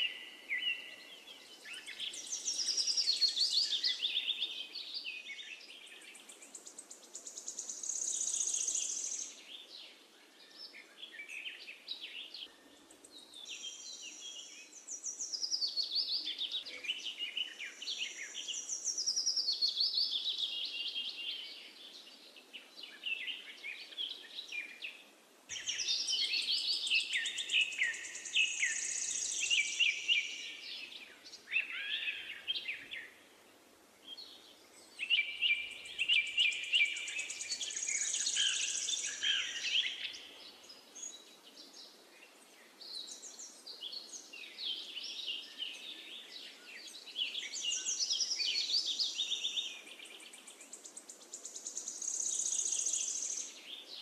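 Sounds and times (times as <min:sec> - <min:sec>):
birds chirping and singing: 0:00.0 - 0:09.8, 0:10.4 - 0:33.1, 0:34.1 - 0:54.0
faint steady hiss: 0:00.0 - 0:54.0.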